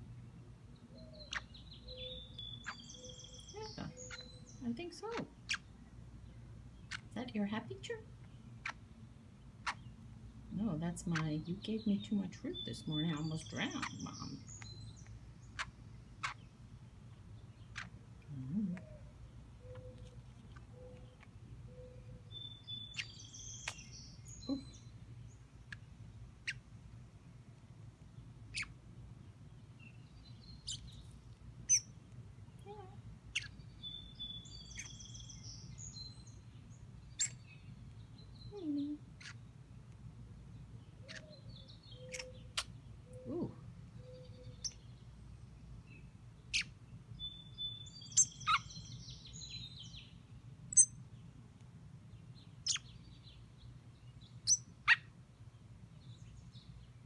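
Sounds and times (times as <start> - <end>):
birds chirping: 0.2 - 27.5, 28.2 - 39.6, 40.5 - 51.3, 52.1 - 57.0.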